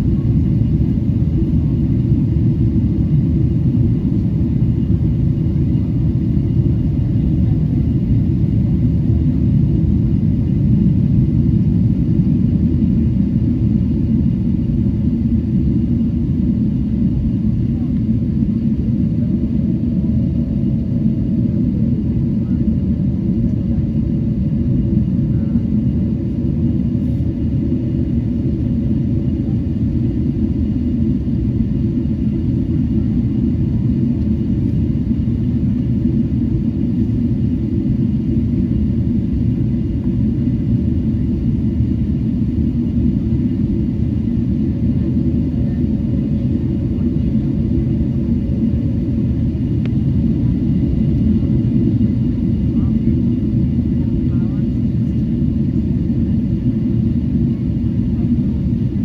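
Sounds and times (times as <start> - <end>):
deep rumble of engines and airflow: 0.0 - 59.0.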